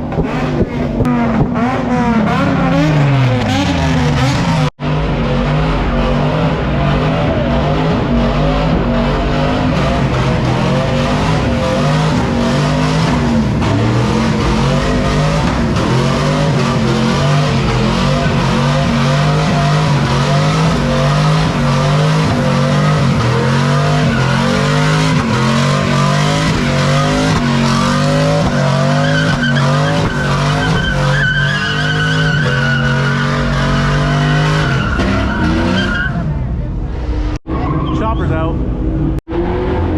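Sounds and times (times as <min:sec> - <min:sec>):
car engine at high revs: 0:00.0 - 0:39.9
tires squealing: 0:00.0 - 0:39.9.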